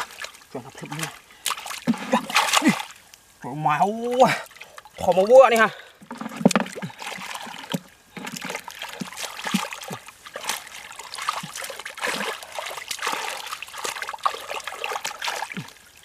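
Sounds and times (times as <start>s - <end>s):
hands splashing in muddy water: 0.0s - 3.0s, 4.1s - 16.0s.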